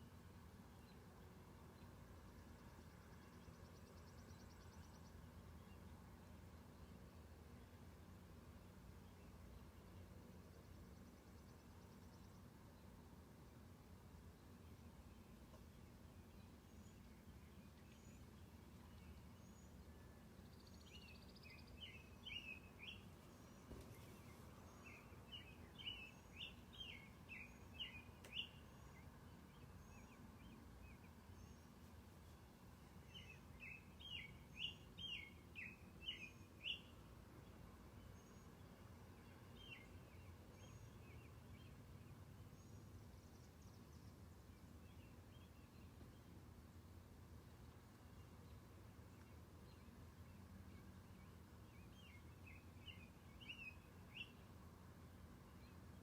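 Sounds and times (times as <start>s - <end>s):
faint steady background noise: 0.0s - 56.0s.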